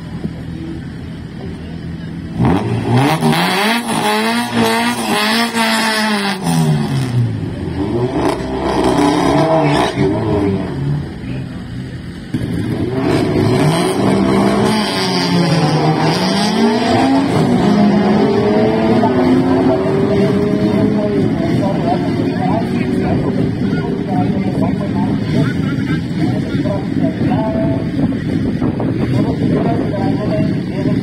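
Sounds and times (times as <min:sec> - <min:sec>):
racing car engine revving: 0:01.2 - 0:31.0.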